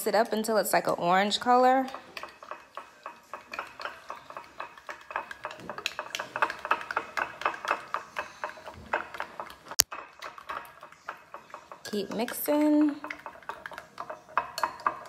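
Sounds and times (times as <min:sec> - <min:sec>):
utensil stirring thick sauce: 0:00.7 - 0:15.0.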